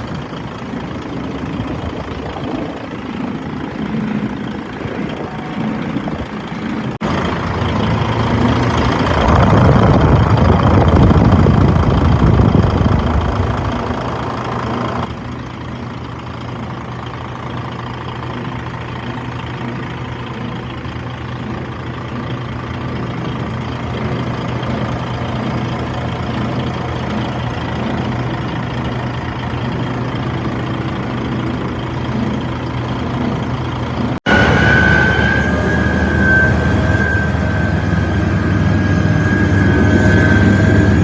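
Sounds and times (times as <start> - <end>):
diesel engine idling: 0.0 - 41.0.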